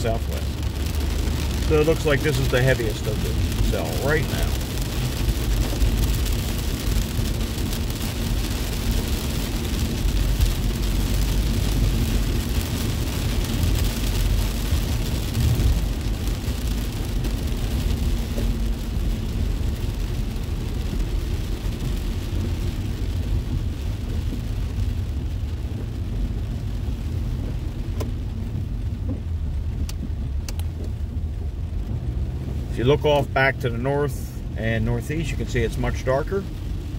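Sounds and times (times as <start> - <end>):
tyres hissing on wet road: 0.0 - 30.4
rain on car: 0.0 - 36.9
road rumble inside car: 0.0 - 36.9.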